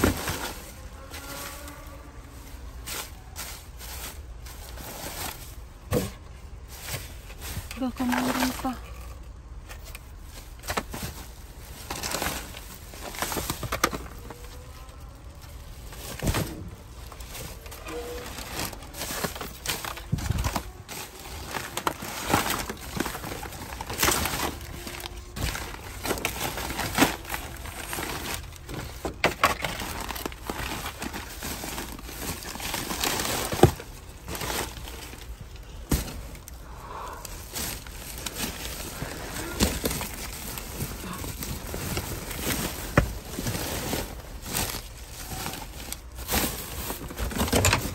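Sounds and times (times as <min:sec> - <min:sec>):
plastic bags rustling and crinkling: 0:00.0 - 0:47.9.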